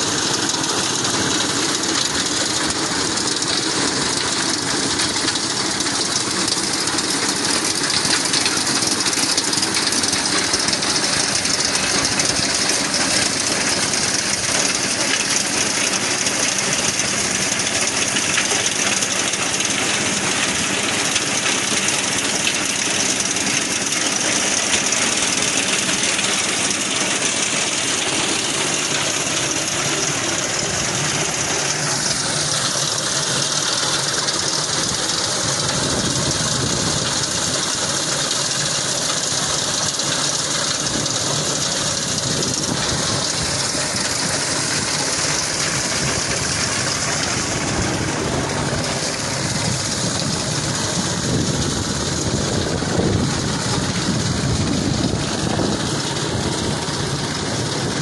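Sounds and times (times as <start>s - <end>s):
engine running: 0.0s - 58.0s
strong hiss: 0.0s - 58.0s.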